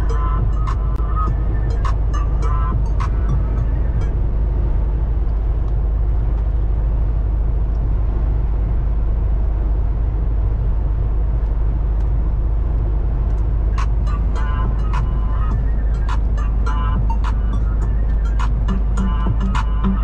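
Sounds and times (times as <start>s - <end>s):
truck engine drone: 0.0s - 20.0s.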